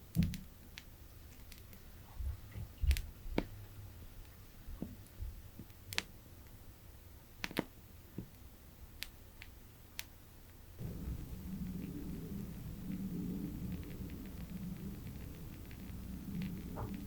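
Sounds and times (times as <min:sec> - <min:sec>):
candle wick crackling: 0:00.0 - 0:17.0
low steady hum: 0:00.0 - 0:17.0.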